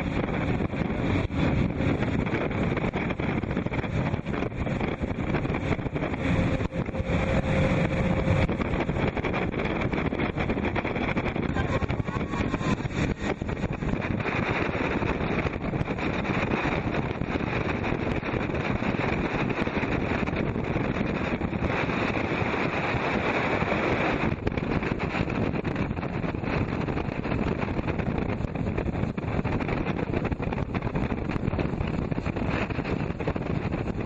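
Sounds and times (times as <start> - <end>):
motorboat engine: 0.0 - 34.0
wind buffeting microphone: 0.0 - 34.0.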